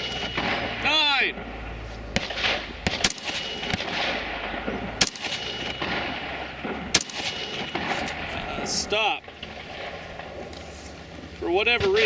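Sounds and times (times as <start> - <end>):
rifle shots: 0.0 - 10.5.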